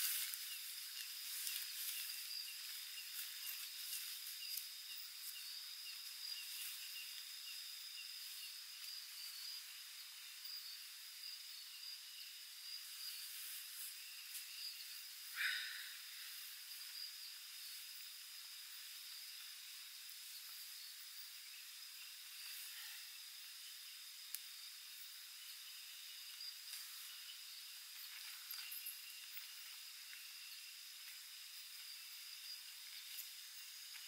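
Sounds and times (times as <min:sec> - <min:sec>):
insect chirping: 0:00.0 - 0:34.0
insect high trill: 0:00.0 - 0:34.0.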